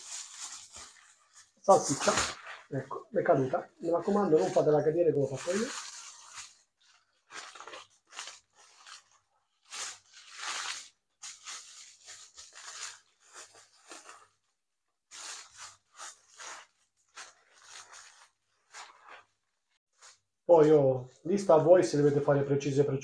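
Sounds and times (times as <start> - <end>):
cling film crinkling: 0.0 - 20.2.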